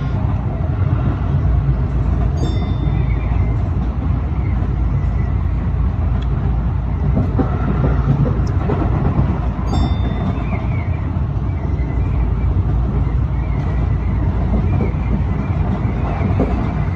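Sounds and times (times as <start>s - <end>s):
electric train wheels rumbling: 0.0s - 16.9s.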